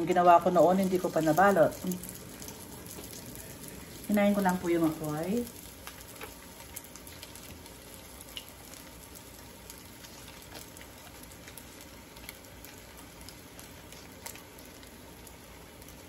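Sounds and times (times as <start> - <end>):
sausage sizzling in a pan: 0.0 - 16.0
small pops and crackles: 0.8 - 4.1, 5.4 - 16.0.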